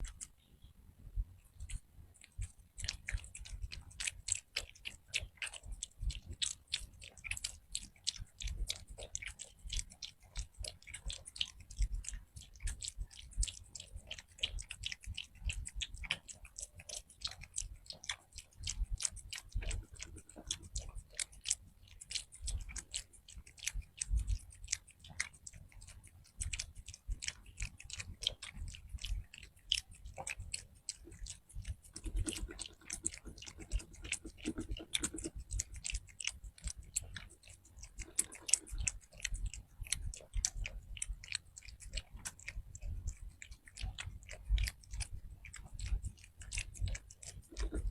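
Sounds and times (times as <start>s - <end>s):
cat chewing food: 0.0s - 47.9s.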